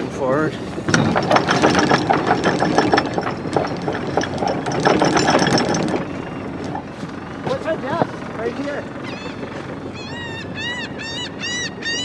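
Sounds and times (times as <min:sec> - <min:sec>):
anchor chain rattling: 0:00.2 - 0:10.0.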